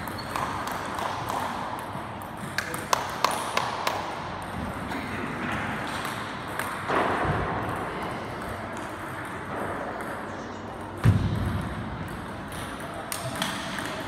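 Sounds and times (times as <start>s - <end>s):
sports hall room noise: 0.0s - 14.0s.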